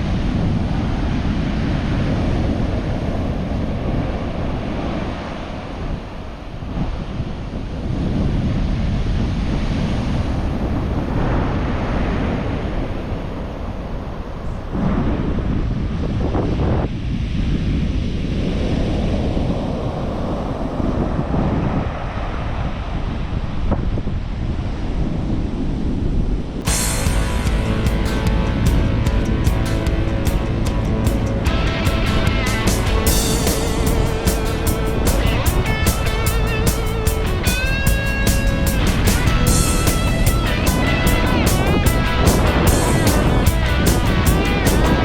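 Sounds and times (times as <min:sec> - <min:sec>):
waves breaking on beach: 0:00.0 - 0:27.4, 0:31.4 - 0:45.0
wind on microphone: 0:00.0 - 0:45.0.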